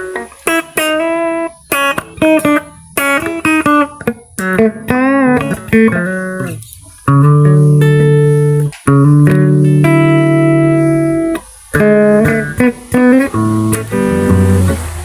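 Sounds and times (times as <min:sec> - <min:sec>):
plucked guitar: 0:00.0 - 0:15.0.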